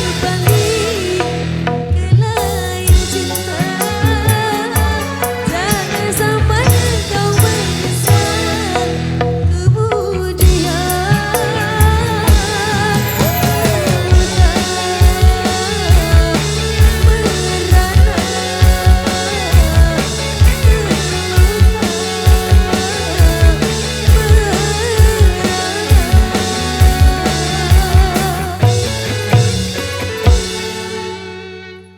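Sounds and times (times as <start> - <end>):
drum beat: 0.0 - 31.0
bass line: 0.0 - 31.9
bending melodic lead: 0.0 - 31.9.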